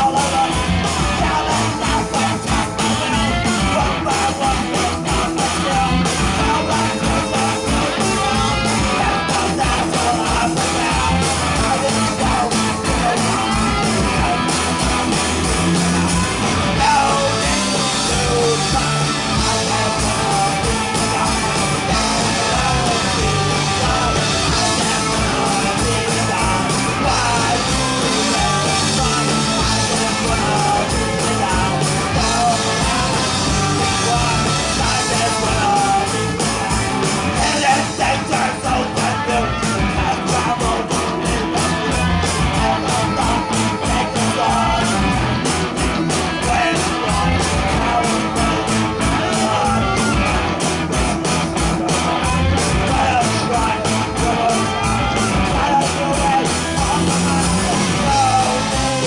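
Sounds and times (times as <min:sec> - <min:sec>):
drums fast beat: 0:00.0 - 0:59.0
electric guitar: 0:00.0 - 0:59.0
live rock band playing: 0:00.0 - 0:59.0
person singing: 0:00.0 - 0:59.0.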